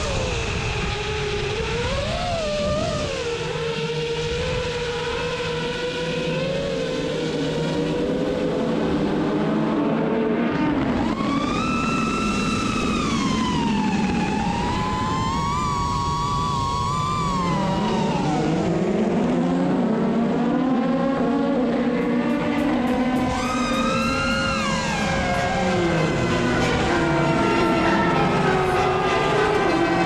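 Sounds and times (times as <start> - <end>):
drone motors and propellers whining: 0.0 - 30.0.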